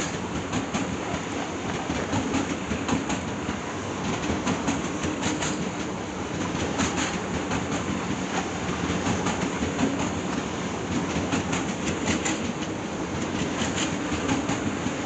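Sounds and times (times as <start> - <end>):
train wheels rumbling and clicking: 0.0 - 15.0.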